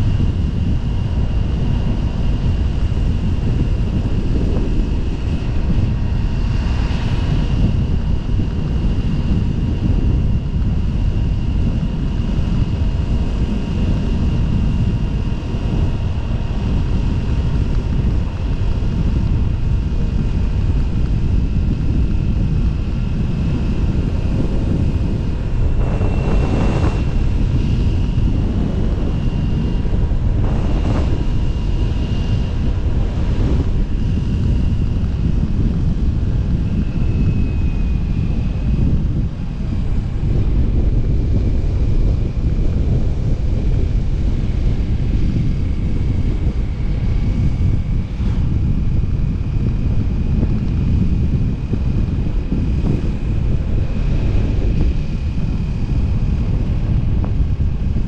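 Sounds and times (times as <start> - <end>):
motorcycle engine drone: 0.0 - 58.0
wind buffeting microphone: 0.0 - 58.0.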